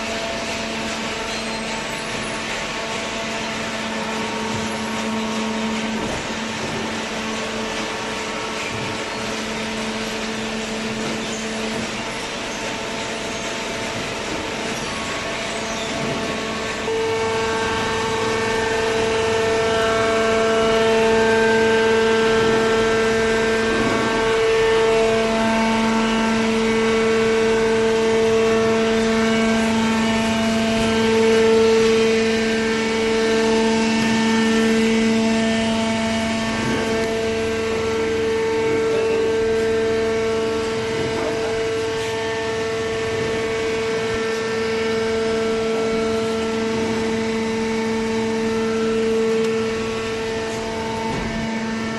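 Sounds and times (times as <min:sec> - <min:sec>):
baler machine hum and whine: 0:00.0 - 0:51.9.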